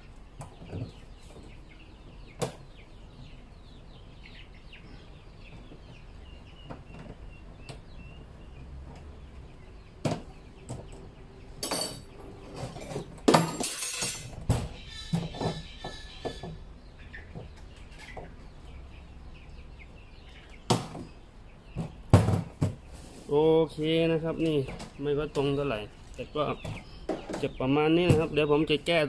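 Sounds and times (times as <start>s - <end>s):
chickens clucking: 0.0s - 13.4s, 14.4s - 29.0s.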